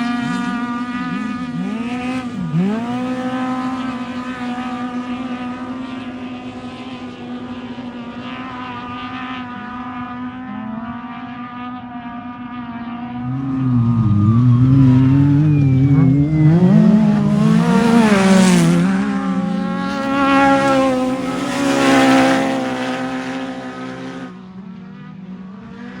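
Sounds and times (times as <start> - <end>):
race vehicle engine revving: 0.0 - 24.5.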